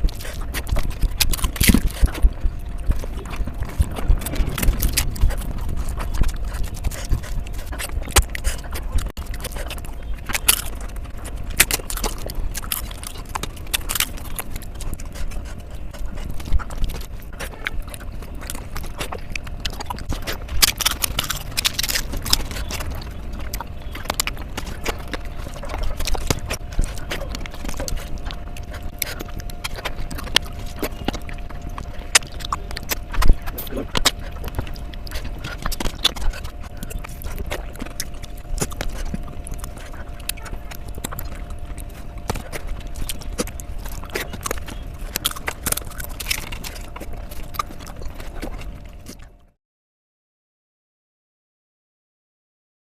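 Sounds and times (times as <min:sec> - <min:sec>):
chewing wet smacks and clicks: 0:00.0 - 0:49.5.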